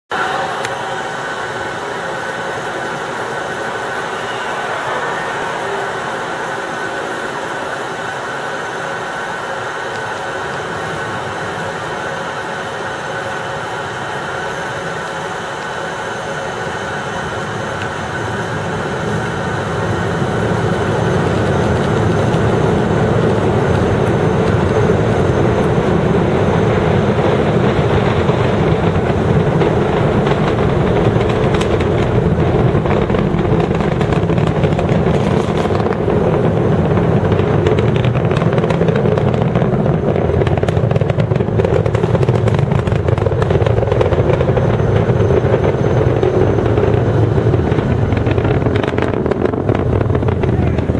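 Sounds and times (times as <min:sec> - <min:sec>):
rocket launch roar: 0:00.1 - 0:50.9.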